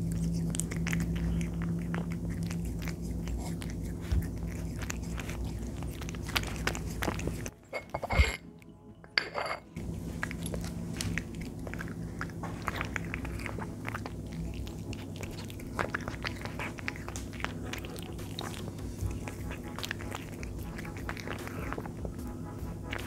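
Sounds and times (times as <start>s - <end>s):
cat chewing wet food: 0.0s - 7.6s, 9.8s - 23.0s.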